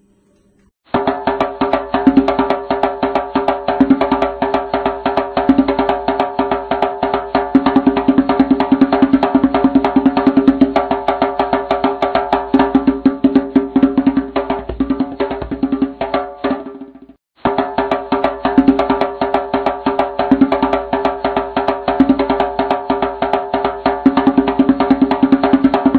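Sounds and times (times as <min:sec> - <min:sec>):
music with fast percussive beat: 0:00.9 - 0:25.9.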